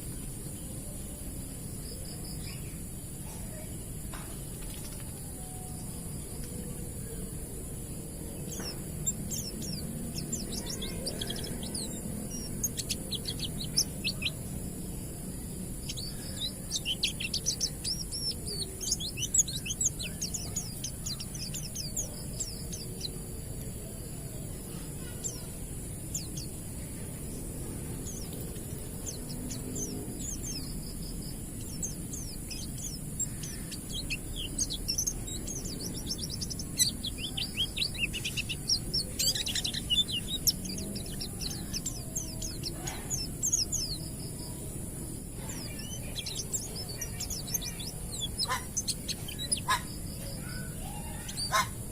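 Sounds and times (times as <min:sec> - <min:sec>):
steady high hiss: 0:00.0 - 0:51.9
bird high chirps and twitters: 0:01.8 - 0:51.9.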